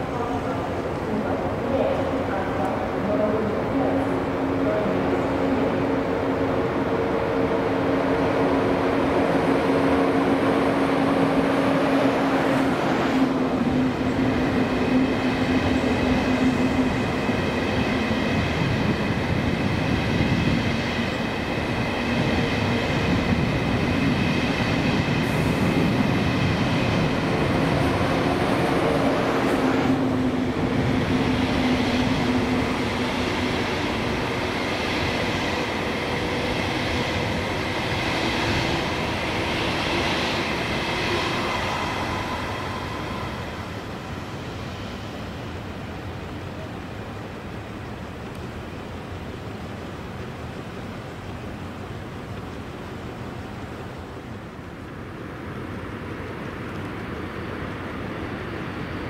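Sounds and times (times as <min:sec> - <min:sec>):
train running on track: 0:00.0 - 0:59.0.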